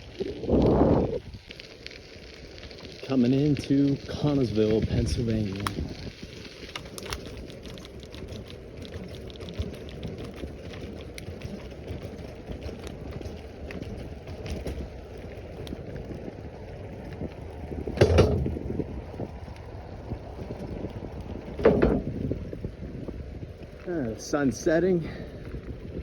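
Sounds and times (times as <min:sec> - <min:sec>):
wind on microphone: 0:00.0 - 0:01.5, 0:04.0 - 0:26.0
bicycle tyres rolling on gravel: 0:00.0 - 0:26.0.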